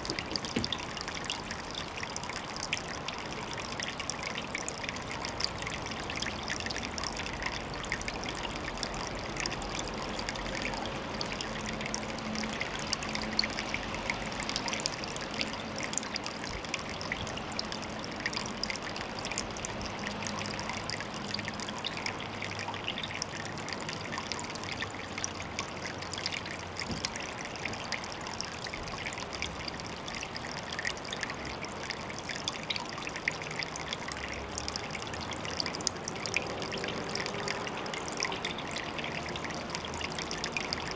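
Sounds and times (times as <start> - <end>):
water trickling and dripping: 0.0 - 40.9.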